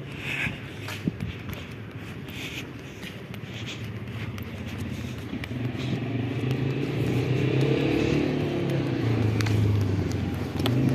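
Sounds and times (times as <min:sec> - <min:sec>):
engine humming: 0:00.0 - 0:10.9.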